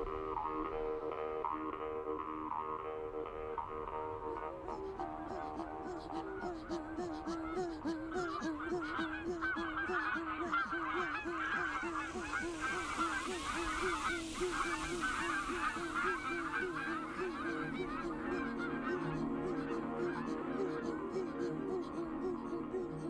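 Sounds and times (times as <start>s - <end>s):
geese calling: 3.8s - 23.0s.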